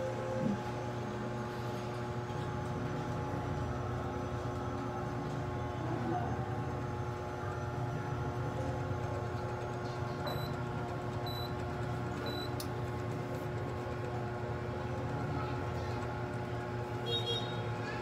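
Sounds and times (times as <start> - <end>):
low mechanical hum with whine: 0.0 - 18.0.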